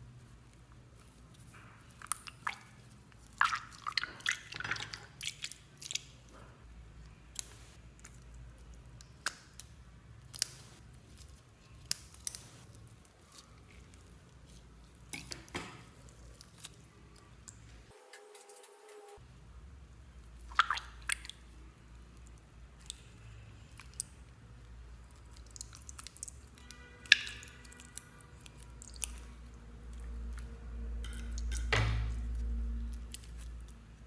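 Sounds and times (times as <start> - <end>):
slime squishing by hand: 0.0 - 18.4, 20.0 - 34.0.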